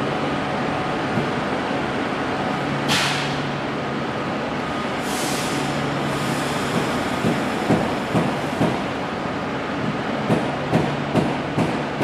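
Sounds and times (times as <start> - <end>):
electric train hum: 0.0 - 12.0.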